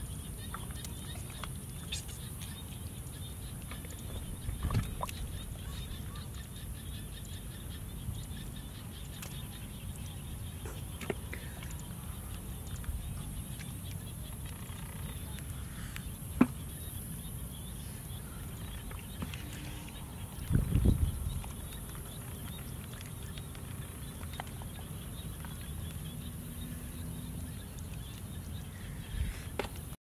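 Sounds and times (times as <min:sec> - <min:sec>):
soft mud squelches: 0:00.2 - 0:07.3, 0:07.9 - 0:16.8, 0:17.6 - 0:30.0.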